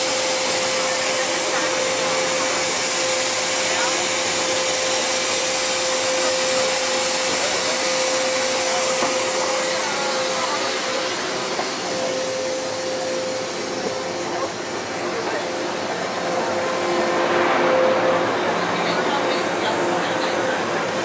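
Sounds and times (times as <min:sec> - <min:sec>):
compressed air hissing: 0:00.0 - 0:18.5
steady tone: 0:00.0 - 0:21.0.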